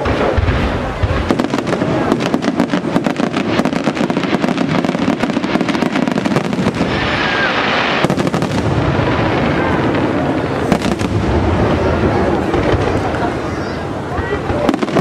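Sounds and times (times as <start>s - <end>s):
fireworks bursting and crackling: 0.0s - 15.0s
fireworks hissing: 0.0s - 15.0s.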